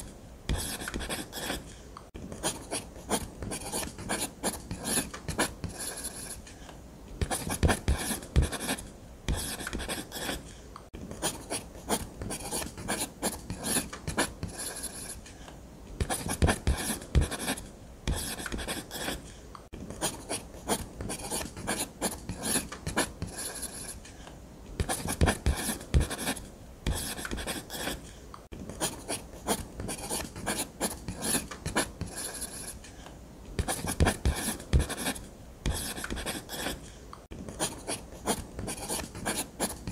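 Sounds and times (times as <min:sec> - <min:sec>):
pen scratching on paper: 0:00.0 - 0:01.7, 0:02.3 - 0:06.5, 0:07.2 - 0:10.6, 0:11.2 - 0:15.2, 0:16.0 - 0:19.3, 0:19.9 - 0:24.1, 0:24.8 - 0:28.1, 0:28.7 - 0:32.8, 0:33.6 - 0:36.9, 0:37.5 - 0:39.9.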